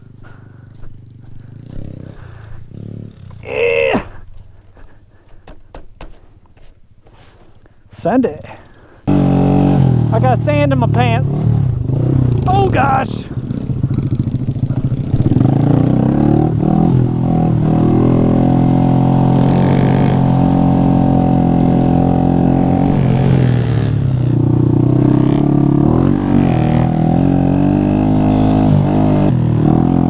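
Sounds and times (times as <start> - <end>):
motorcycle engine running: 0.0 - 3.6, 9.1 - 30.0.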